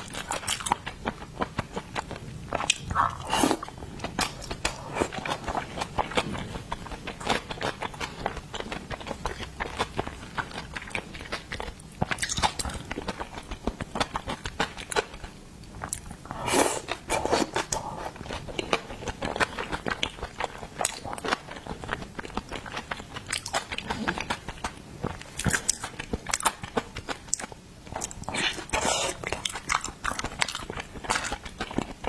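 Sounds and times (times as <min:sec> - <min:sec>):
chewing and crunching seafood: 0:00.0 - 0:32.0.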